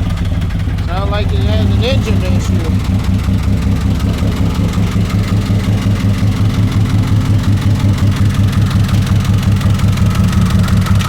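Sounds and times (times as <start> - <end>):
car engine idling: 0.0 - 11.0
rhythmic tapping inside engine: 0.0 - 11.0.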